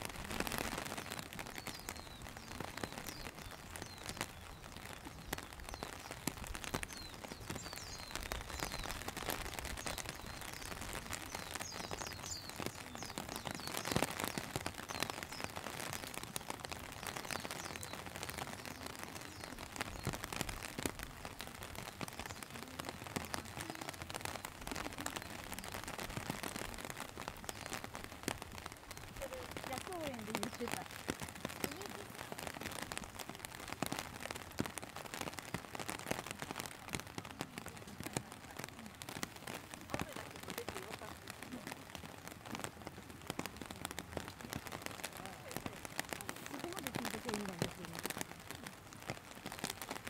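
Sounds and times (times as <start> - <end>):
raindrops pattering close by: 0.0 - 50.0
steady rain: 0.0 - 50.0.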